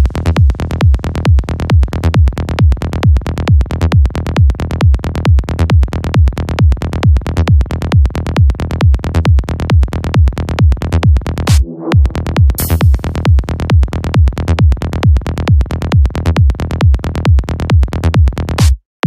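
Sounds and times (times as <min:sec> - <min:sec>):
electronic trance beat: 0:00.0 - 0:18.8
short bass notes: 0:00.0 - 0:18.8
kick drum: 0:00.0 - 0:18.9.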